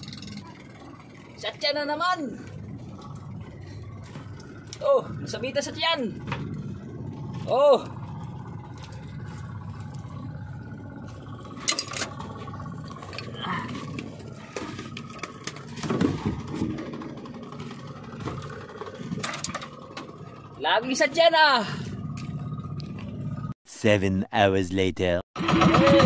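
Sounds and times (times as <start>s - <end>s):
small boat engine running: 0.0s - 23.6s, 25.4s - 26.0s.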